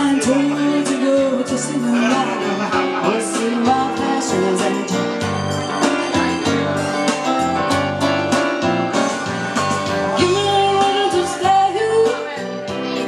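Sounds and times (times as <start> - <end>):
bass line: 0.0 - 13.0
guitar: 0.0 - 13.0.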